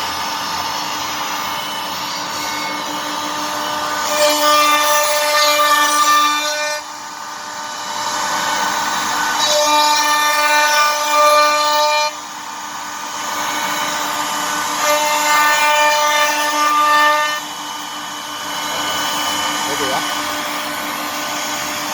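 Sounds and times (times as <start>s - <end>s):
router bit cutting wood: 0.0s - 21.9s
wood router spindle whine: 0.0s - 21.9s.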